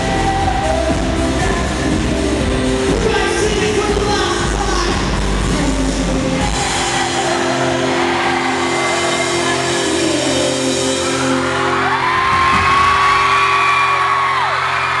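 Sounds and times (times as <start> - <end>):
live rock band playing: 0.0 - 14.9.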